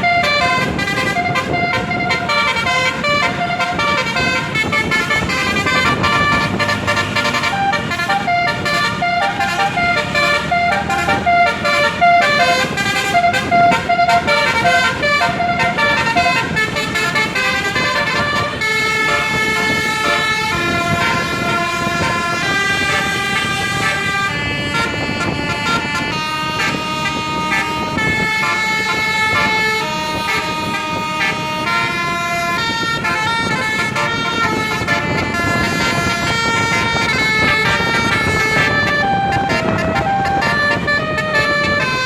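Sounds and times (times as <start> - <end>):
multi-trumpet air horn tune: 0.0 - 42.0.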